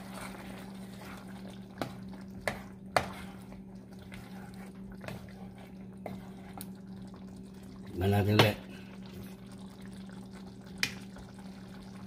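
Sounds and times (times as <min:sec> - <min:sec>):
curry bubbling while stirred: 0:00.0 - 0:12.0.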